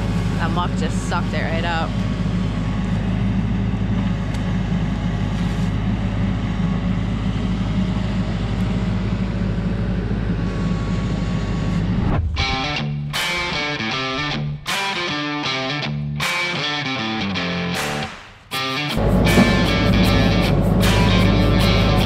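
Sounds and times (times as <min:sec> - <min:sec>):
tractor diesel engine running: 0:00.0 - 0:14.6, 0:19.0 - 0:22.0.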